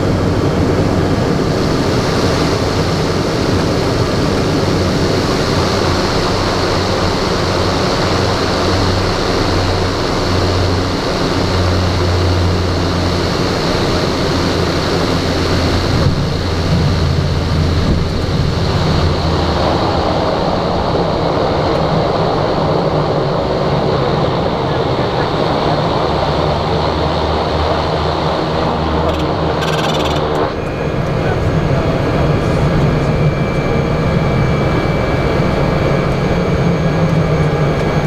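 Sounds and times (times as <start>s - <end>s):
turboprop engine drone: 0.0s - 38.0s.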